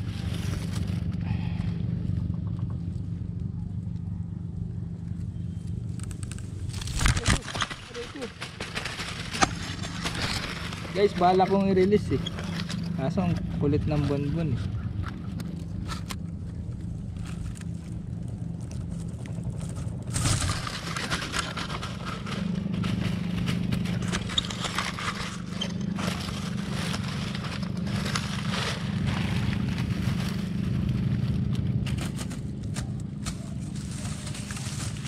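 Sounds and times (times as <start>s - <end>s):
steady low hum: 0.0s - 35.0s
fish handling scraping and rustling: 5.9s - 35.0s.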